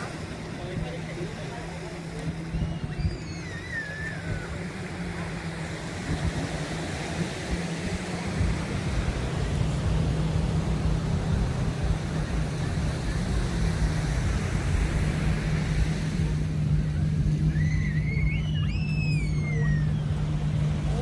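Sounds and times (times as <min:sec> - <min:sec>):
road noise: 0:00.0 - 0:21.0
vehicle engines humming: 0:00.0 - 0:21.0.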